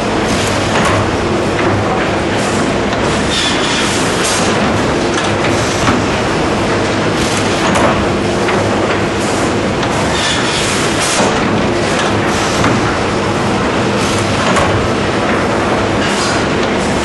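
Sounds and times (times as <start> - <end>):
sawmill machinery hum and clatter: 0.0 - 17.0.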